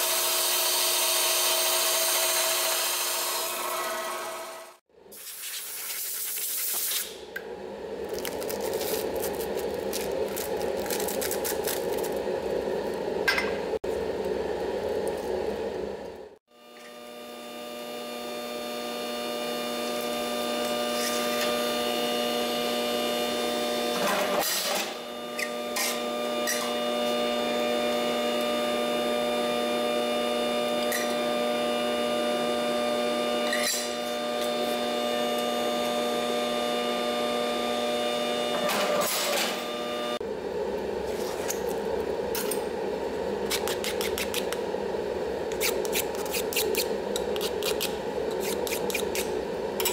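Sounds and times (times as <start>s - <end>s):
metal shear motor humming: 7.4s - 49.9s.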